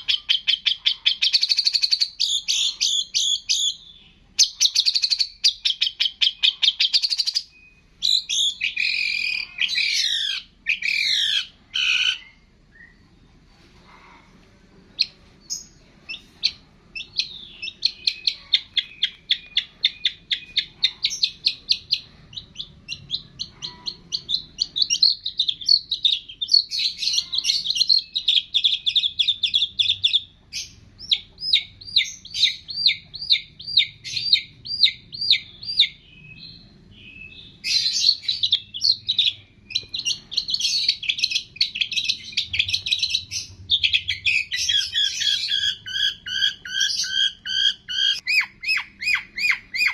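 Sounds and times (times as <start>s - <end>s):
songbird chirping and trilling: 0.0s - 49.9s.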